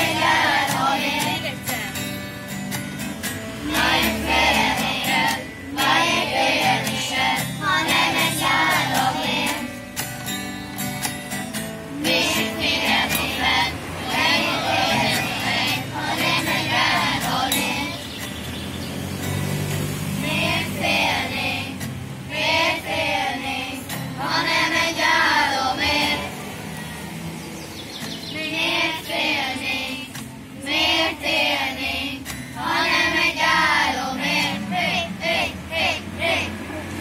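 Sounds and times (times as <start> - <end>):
children singing together: 0.0 - 1.6, 3.5 - 9.8, 12.0 - 18.2, 19.7 - 26.8, 28.3 - 37.0
acoustic guitar: 0.0 - 37.0.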